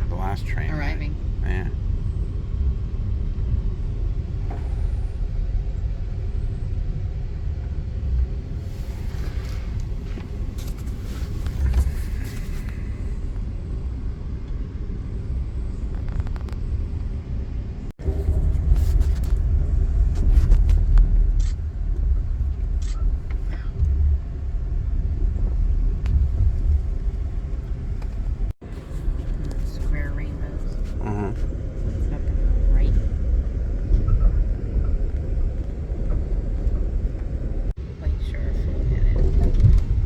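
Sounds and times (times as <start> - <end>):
train wheels on rails rumbling: 0.0 - 40.0.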